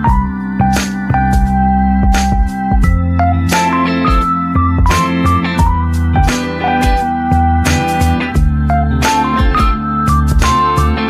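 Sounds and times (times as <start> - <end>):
guitar instrumental with steady beat: 0.0 - 11.0.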